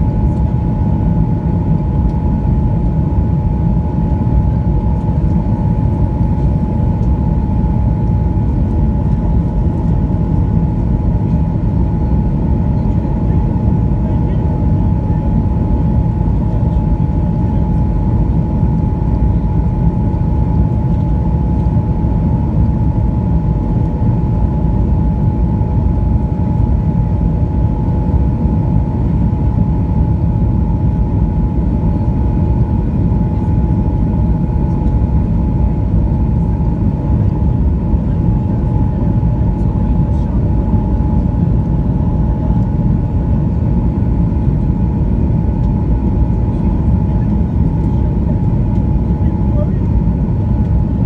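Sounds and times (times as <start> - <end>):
airliner cabin low rumble: 0.0 - 51.0
jet engine whine: 0.0 - 51.0.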